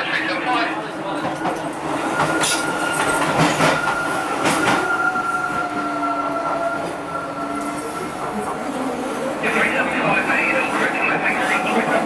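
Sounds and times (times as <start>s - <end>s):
train running from inside car: 0.0s - 12.0s.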